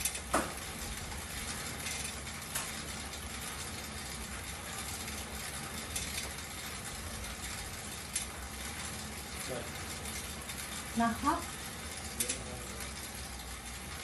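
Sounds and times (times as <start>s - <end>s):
air bike fan spinning: 0.0s - 14.0s
faint mechanism ticks: 0.0s - 14.0s.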